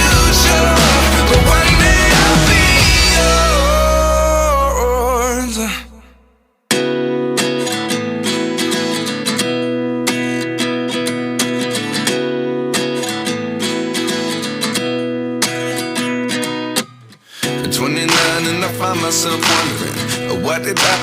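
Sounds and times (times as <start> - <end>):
acoustic guitar picking: 0.0 - 6.1, 6.7 - 21.0.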